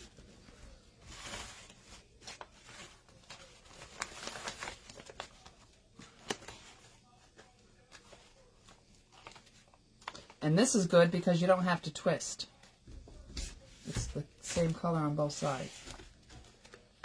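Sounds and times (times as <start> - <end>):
fabric rustling and crinkling: 0.0 - 10.4, 12.5 - 17.0.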